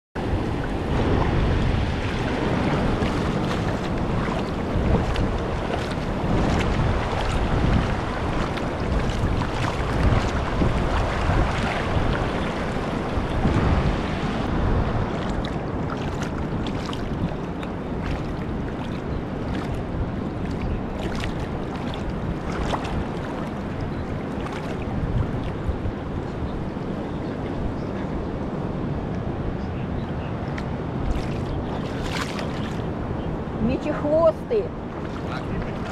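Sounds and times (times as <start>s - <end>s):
sea water lapping at shore: 0.2s - 35.9s
wind buffeting microphone: 0.2s - 35.9s.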